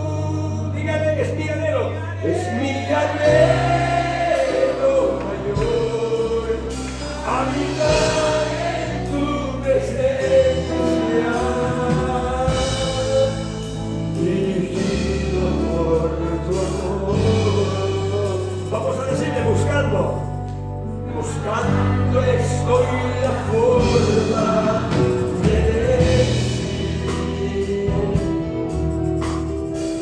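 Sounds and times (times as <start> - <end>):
church band playing: 0.0 - 30.0
held bass notes: 0.0 - 30.0
person singing slow melody: 2.2 - 19.6, 20.8 - 30.0.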